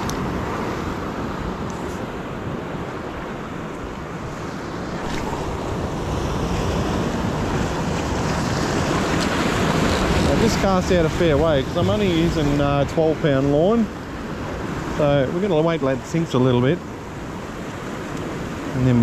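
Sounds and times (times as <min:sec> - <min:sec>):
ocean surf breaking on rocks: 0:00.0 - 0:19.0.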